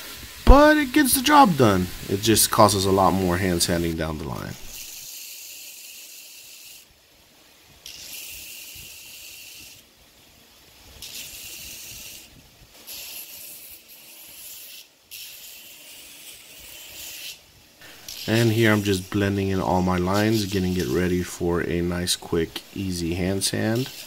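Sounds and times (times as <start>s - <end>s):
belt grinder grinding wood: 0.2s - 6.9s, 7.8s - 9.9s, 11.0s - 24.0s.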